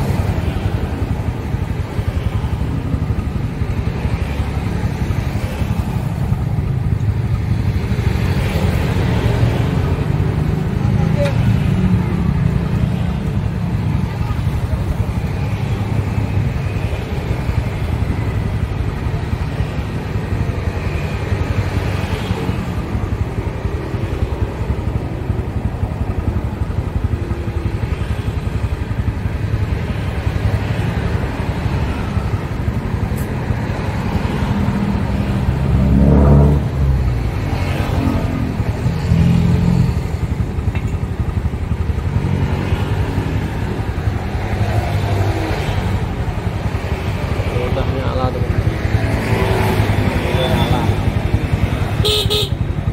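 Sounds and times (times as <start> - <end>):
low rumble of vehicle engines: 0.0 - 52.9.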